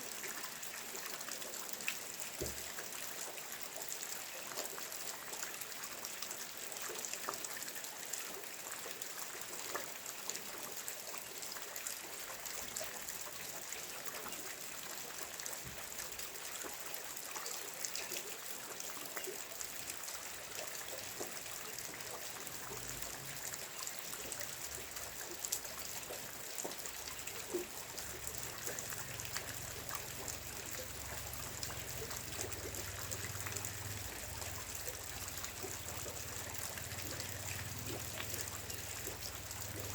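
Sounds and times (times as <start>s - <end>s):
steady rain falling: 0.0s - 39.9s
water trickling: 0.0s - 39.9s.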